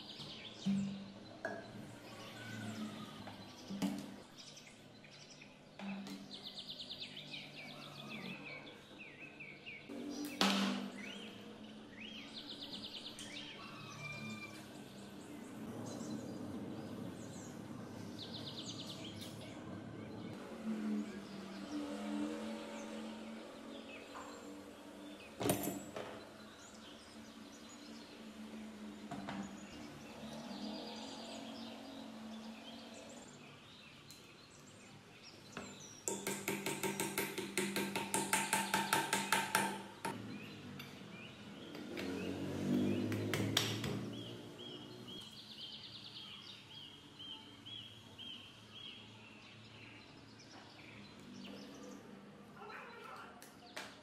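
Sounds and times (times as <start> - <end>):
birds chirping in trills: 0.0 - 20.4, 22.7 - 53.8.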